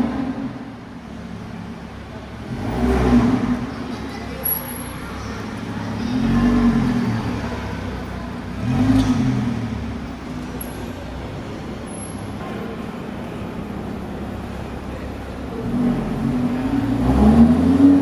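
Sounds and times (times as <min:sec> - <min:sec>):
cars passing by: 0:00.0 - 0:18.0
steady traffic noise: 0:00.0 - 0:18.0.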